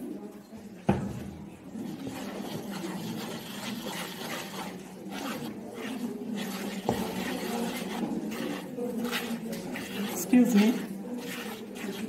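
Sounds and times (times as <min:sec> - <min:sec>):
whisk scraping batter in bowl: 0:01.5 - 0:12.0.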